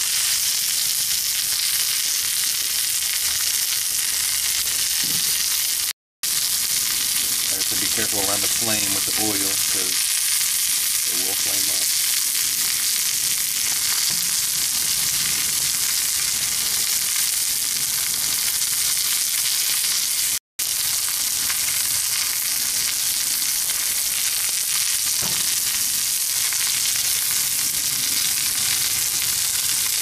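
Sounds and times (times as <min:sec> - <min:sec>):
mushrooms frying in oil: 0:00.0 - 0:30.0
patties sizzling on grill: 0:00.0 - 0:30.0.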